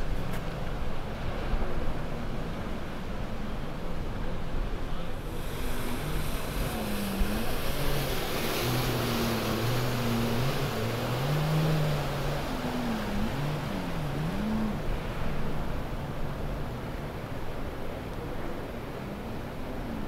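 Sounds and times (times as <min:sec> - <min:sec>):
outboard motors droning: 0:00.0 - 0:20.0
water noise: 0:00.0 - 0:20.0.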